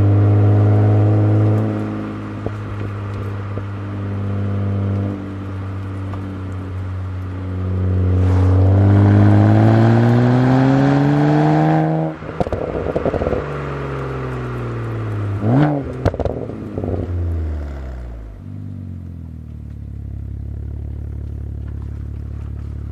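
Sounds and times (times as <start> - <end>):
car engine revving: 0.0 - 22.9
exhaust crackling: 0.0 - 22.9.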